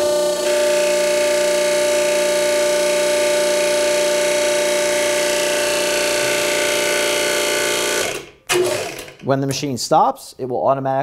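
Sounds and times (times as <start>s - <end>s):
hydraulic crimper humming: 0.0s - 9.3s.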